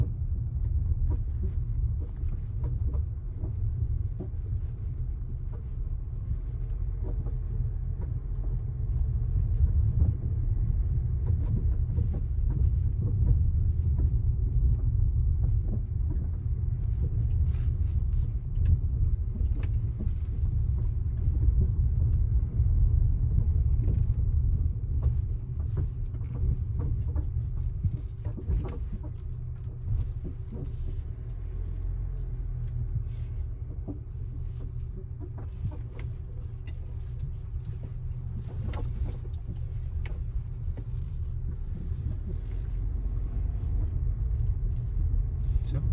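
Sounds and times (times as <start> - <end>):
car road rumble: 0.0 - 45.9
car body creaks and squeaks: 1.1 - 45.9.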